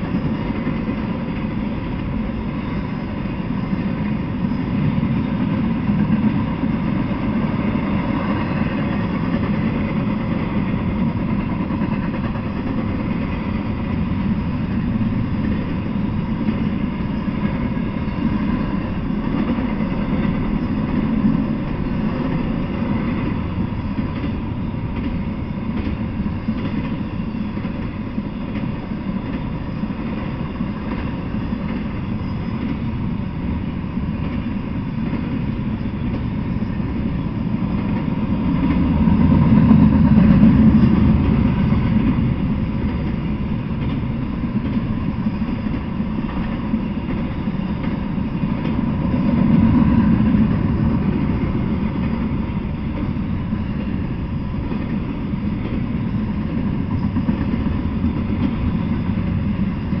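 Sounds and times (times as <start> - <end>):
freight train rolling past: 0.0 - 60.0.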